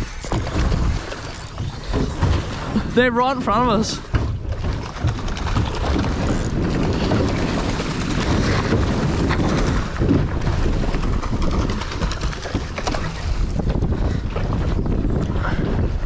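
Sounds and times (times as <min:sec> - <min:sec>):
boat engine: 0:00.0 - 0:16.0
wind buffeting microphone: 0:00.0 - 0:16.0.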